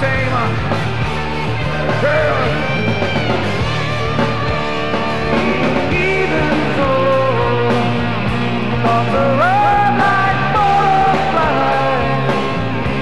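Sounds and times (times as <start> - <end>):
rock song with electric guitar: 0.0 - 13.0.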